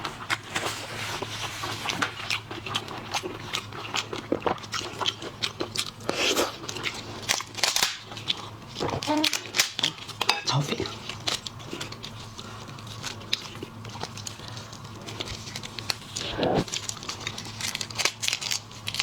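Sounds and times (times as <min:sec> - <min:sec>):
crunching and chewing shellfish: 0:00.0 - 0:19.0.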